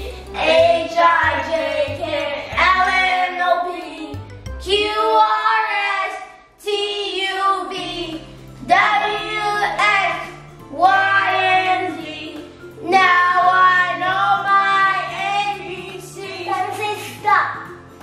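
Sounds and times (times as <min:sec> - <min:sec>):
background music with bass line: 0:00.0 - 0:05.4, 0:06.7 - 0:18.0
child singing: 0:00.3 - 0:17.7.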